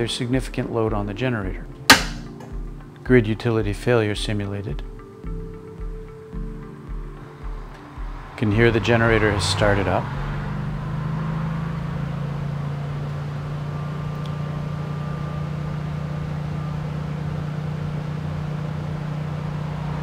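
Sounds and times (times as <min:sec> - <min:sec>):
generator humming: 0:00.0 - 0:20.0.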